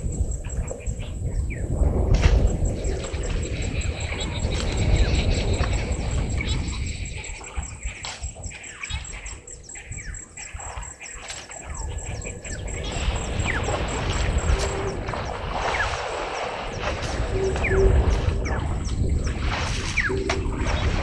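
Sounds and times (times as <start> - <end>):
birds chirping: 2.6 - 19.4.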